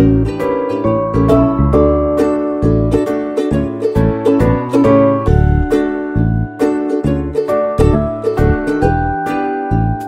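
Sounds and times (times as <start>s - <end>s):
plucked-string tune with bass: 0.0s - 10.0s.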